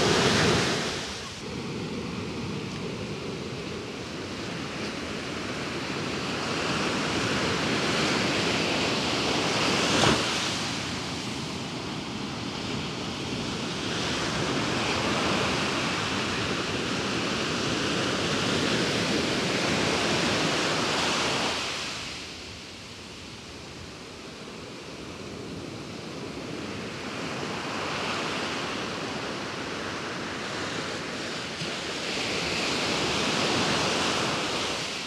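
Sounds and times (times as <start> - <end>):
ocean waves breaking on shore: 0.0 - 35.0.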